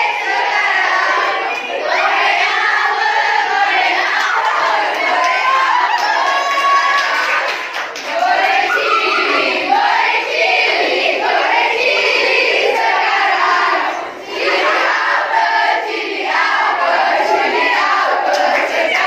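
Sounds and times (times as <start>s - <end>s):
girls singing together: 0.0s - 19.0s.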